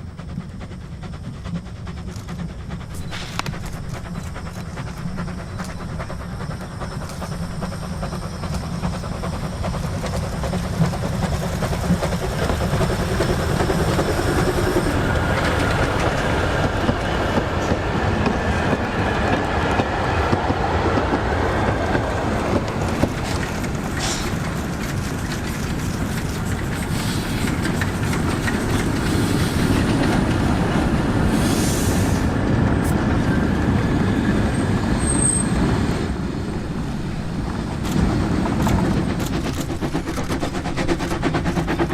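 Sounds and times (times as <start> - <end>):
train wheels clacking on rails: 0.0 - 41.9.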